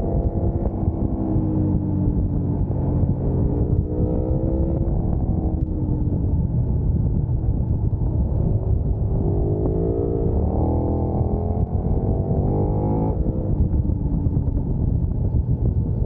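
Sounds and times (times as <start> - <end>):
motorcycle engine accelerating: 0.0 - 16.0
wind and road noise: 0.0 - 16.0.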